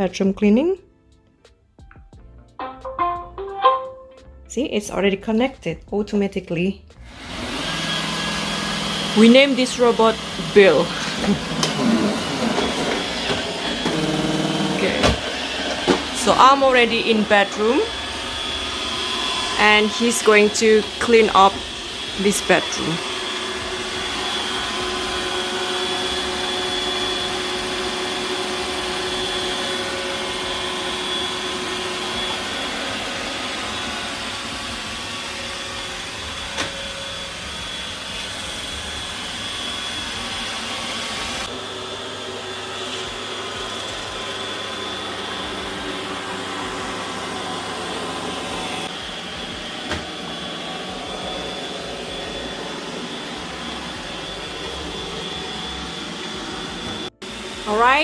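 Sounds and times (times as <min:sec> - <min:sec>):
robot vacuum whirring: 0:07.1 - 0:58.0.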